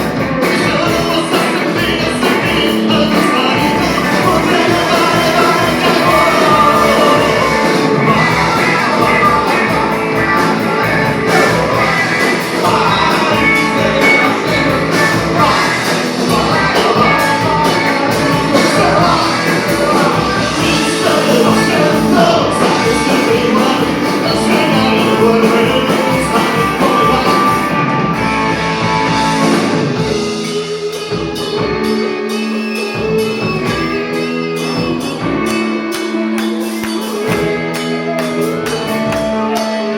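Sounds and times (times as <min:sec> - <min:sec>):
live rock band: 0:00.0 - 0:39.9
person singing: 0:00.1 - 0:39.9.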